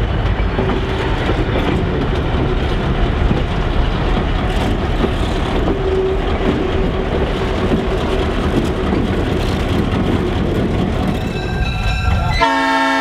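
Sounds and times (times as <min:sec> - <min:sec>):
diesel locomotive engine running: 0:00.0 - 0:13.0
wheels rumbling on rails: 0:00.0 - 0:13.0.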